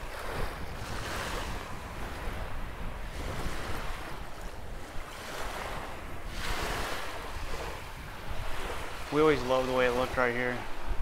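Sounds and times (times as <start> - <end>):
small waves lapping on shore: 0.0 - 11.0
wind rumbling on microphone: 0.0 - 11.0.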